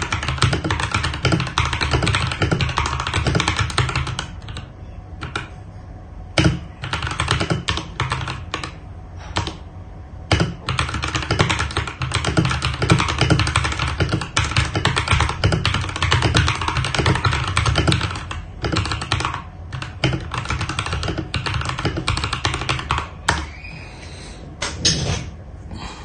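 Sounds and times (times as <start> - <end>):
fast mechanical keyboard typing: 0.0 - 5.5, 6.4 - 9.6, 10.3 - 23.4.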